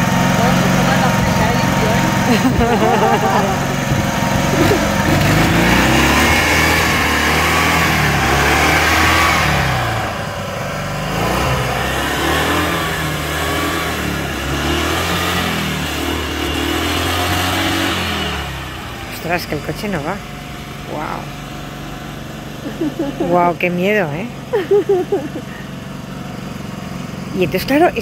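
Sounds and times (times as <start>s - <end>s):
flat-twin engine revving: 0.0s - 28.0s.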